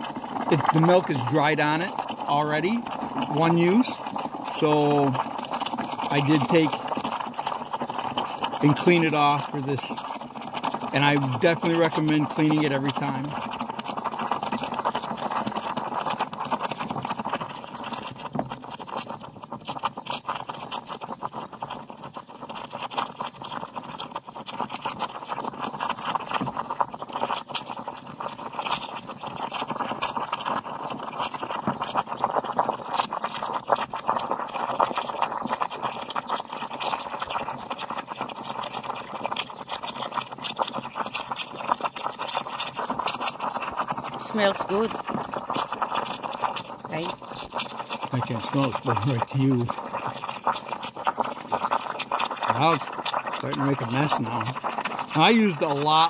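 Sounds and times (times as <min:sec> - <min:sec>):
steam hissing: 0:00.0 - 0:18.9, 0:24.8 - 0:56.0
milk crackling and sputtering: 0:00.0 - 0:56.0.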